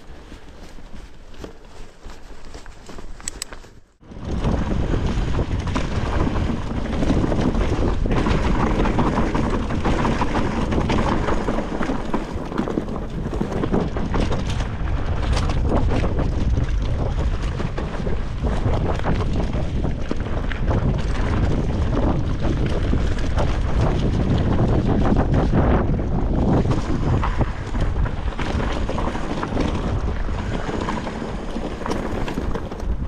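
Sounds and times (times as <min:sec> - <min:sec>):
tyre rumble: 0:00.0 - 0:33.0
bike clattering over stones: 0:00.3 - 0:33.0
wind rush over microphone: 0:04.0 - 0:33.0.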